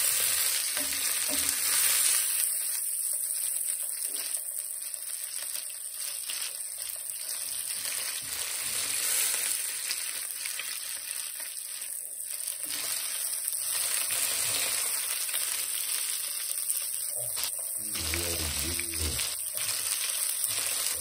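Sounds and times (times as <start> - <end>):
fish sizzling in oil: 0.0 - 21.0.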